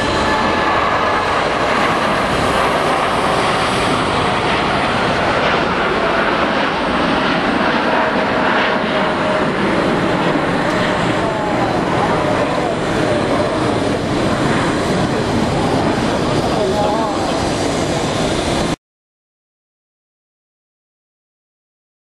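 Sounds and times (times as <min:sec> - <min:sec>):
jet engines at takeoff: 0:00.0 - 0:18.8.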